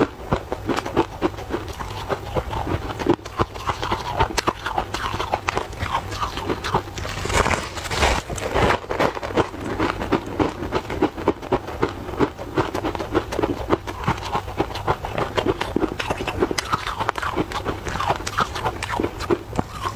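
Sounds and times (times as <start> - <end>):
crunchy snack chewing: 0.0 - 19.9
wet mouth sounds: 0.0 - 19.9.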